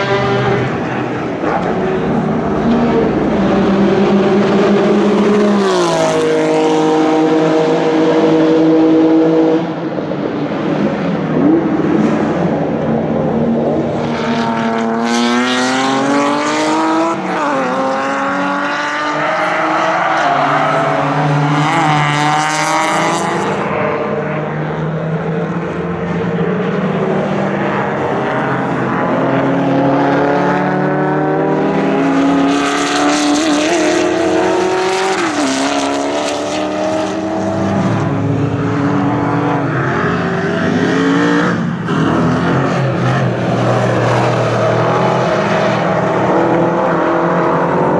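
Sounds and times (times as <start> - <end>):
race car engines accelerating: 0.0 - 47.9.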